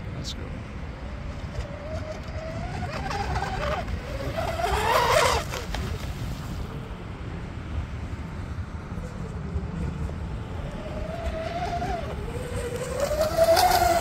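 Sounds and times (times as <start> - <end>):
rc speedboat motor whine: 0.7 - 6.9, 8.8 - 14.0.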